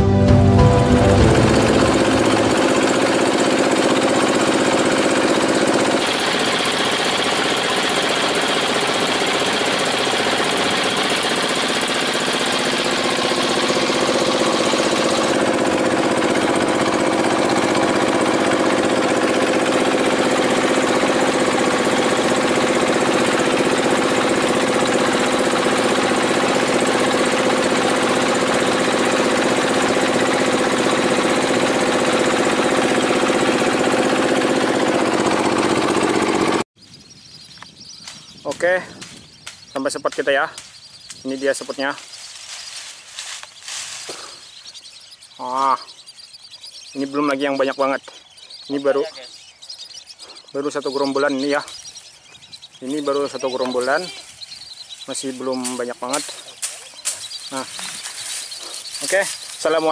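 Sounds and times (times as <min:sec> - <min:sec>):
boat engine running: 0:00.0 - 0:37.5, 0:40.9 - 0:59.9.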